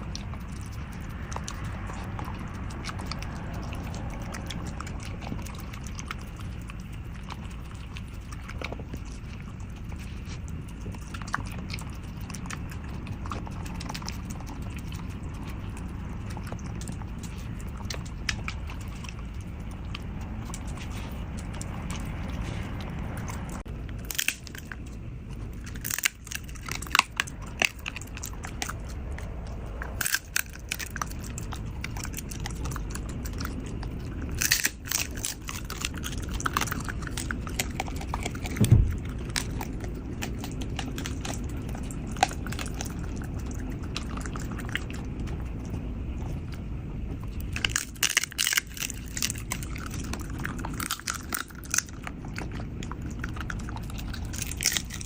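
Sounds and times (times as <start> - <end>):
dog chewing and crunching: 0.0 - 55.0.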